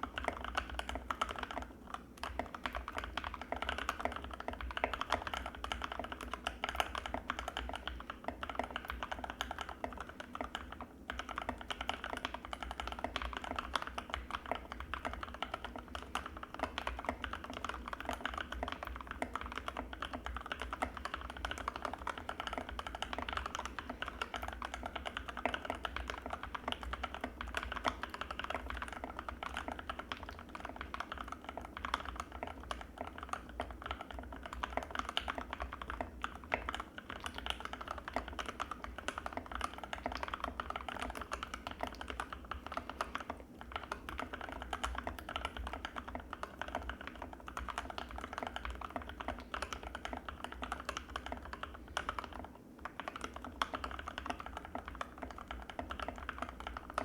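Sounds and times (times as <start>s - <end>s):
fast mechanical keyboard typing: 0.0s - 57.0s.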